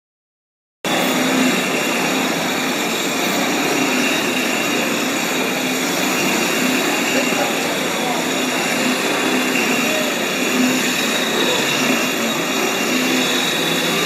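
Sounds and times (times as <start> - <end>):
floor grinder motor hum: 0.9 - 14.0
grinding hiss on concrete: 0.9 - 14.0.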